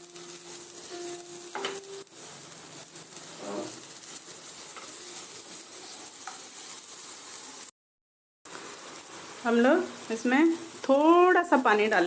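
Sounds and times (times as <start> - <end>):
vegetables sizzling in a frying pan: 0.0 - 7.7, 8.5 - 12.0.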